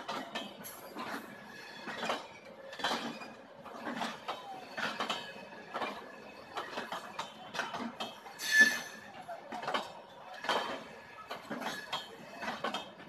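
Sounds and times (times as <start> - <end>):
train wheels clacking over rail joints: 0.0 - 13.0.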